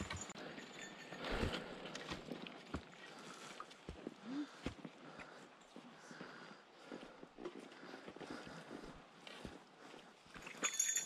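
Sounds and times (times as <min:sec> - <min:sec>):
footsteps on rocky trail: 0:00.0 - 0:11.0.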